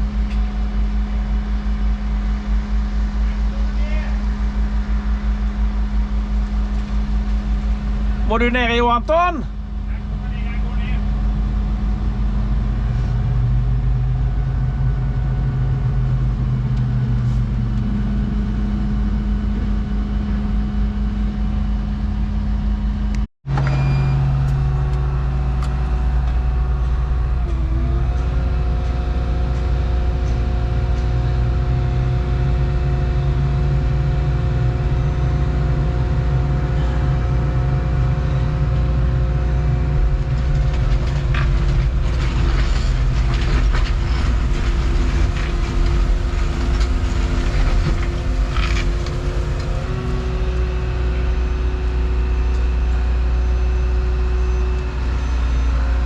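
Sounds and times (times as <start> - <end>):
excavator engine droning: 0.0 - 56.0
hydraulic whine: 0.0 - 56.0.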